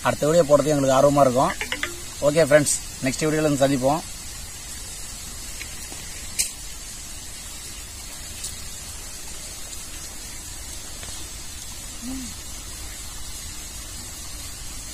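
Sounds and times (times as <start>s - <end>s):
background hiss: 0.0s - 14.9s.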